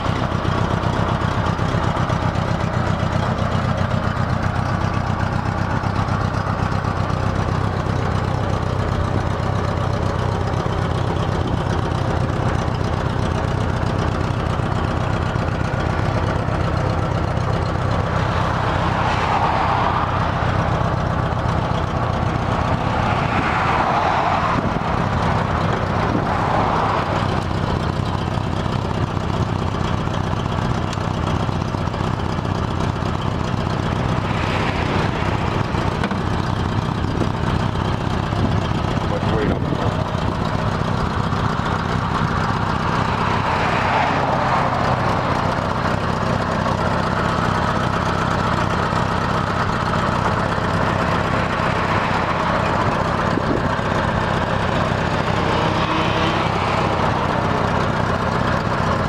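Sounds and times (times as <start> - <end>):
motorcycle engine idling: 0.0 - 23.5, 24.6 - 59.0.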